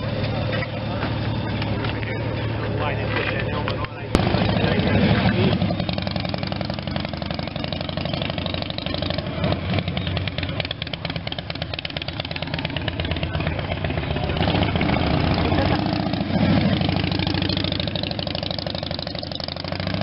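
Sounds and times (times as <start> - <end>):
motorcycle engines idling: 0.0 - 20.0.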